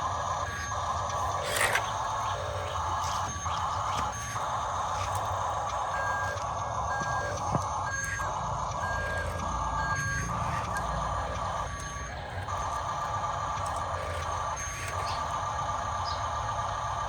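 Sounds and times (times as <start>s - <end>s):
low engine rumble: 0.0s - 17.0s
reversing beeper: 0.0s - 17.0s.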